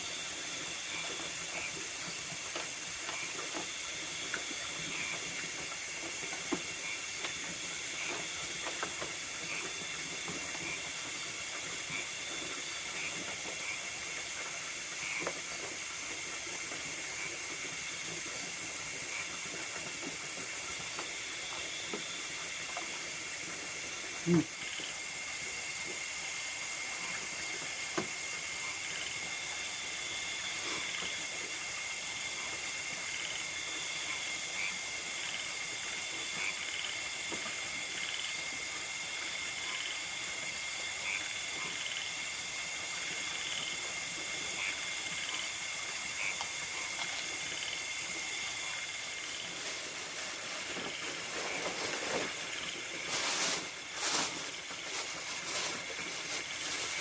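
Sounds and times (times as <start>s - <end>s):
even hiss: 0.0s - 57.0s
insects chirring: 0.0s - 57.0s.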